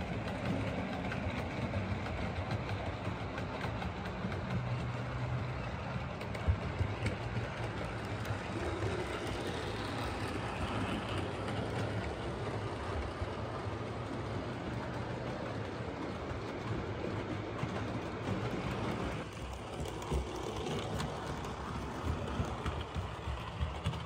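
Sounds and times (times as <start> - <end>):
model train rolling rattle: 0.0 - 24.0.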